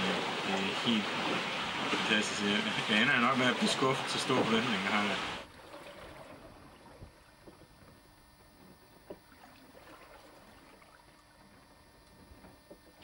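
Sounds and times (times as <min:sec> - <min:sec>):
water lapping against a hull: 0:00.0 - 0:13.0.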